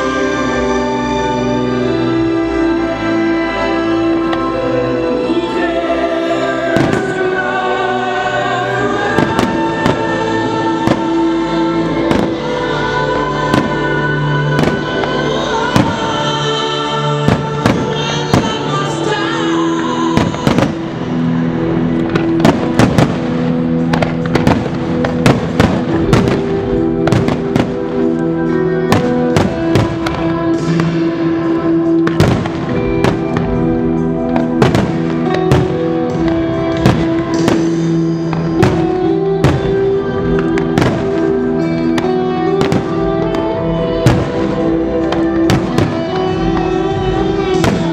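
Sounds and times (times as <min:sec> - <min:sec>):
music with long held notes: 0:00.0 - 0:47.9.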